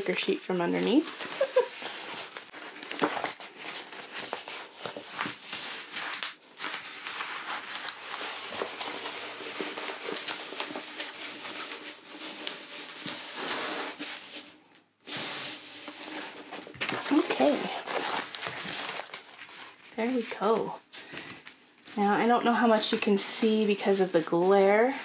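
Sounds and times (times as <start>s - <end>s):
plastic film crinkling: 0.0s - 25.0s.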